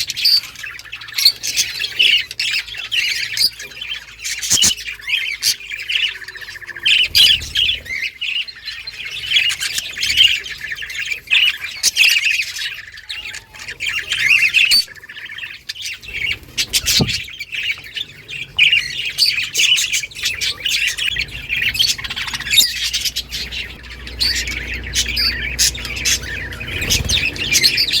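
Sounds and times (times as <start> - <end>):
budgerigars chirping and chattering: 0.0 - 28.0.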